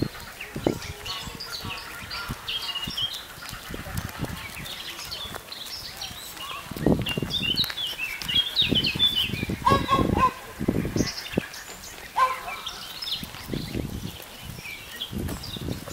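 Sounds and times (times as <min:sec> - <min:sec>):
goslings peeping: 0:00.0 - 0:15.1.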